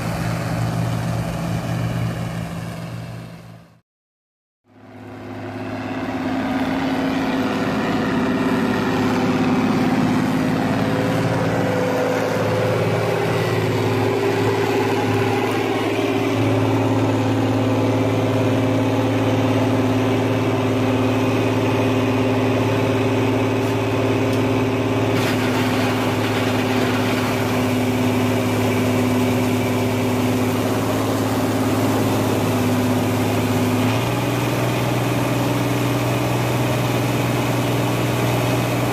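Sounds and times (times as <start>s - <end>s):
diesel engines droning: 0.0s - 3.8s, 4.7s - 38.9s.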